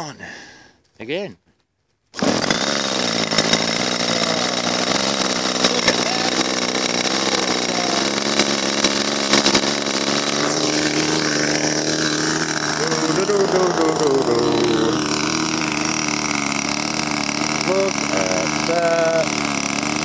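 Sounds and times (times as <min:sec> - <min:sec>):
model airplane engine running: 0:02.2 - 0:20.0.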